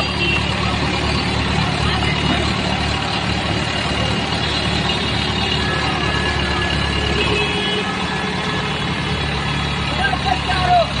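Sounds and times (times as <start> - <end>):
heavy engine idling: 0.0 - 11.0
outdoor noise: 0.0 - 11.0.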